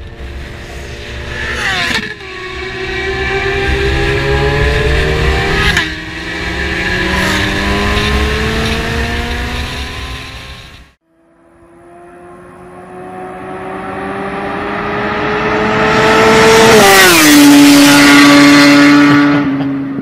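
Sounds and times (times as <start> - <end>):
motorcycle passing at high speed: 0.0 - 20.0.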